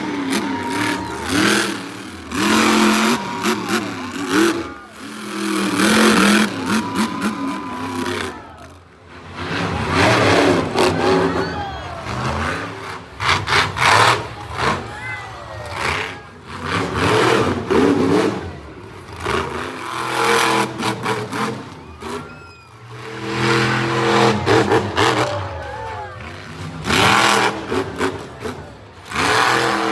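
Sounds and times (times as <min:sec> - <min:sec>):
monster truck engine revving: 0:00.0 - 0:29.9.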